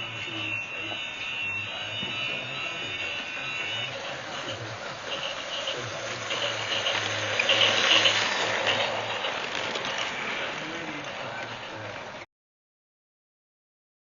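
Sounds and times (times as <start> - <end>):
toy train motor whirring: 0.0 - 11.7
toy train wheels clattering: 0.0 - 12.2.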